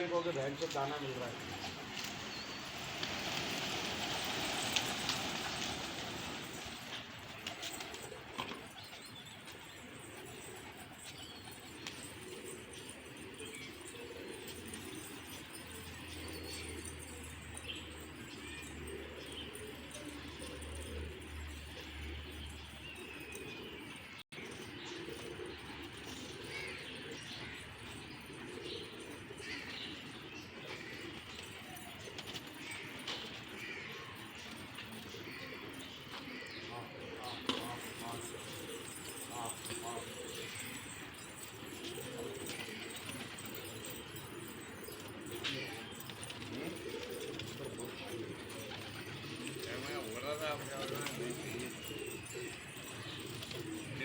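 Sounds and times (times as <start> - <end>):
pigeons cooing: 0.0 - 54.0
small birds chirping: 0.0 - 54.0.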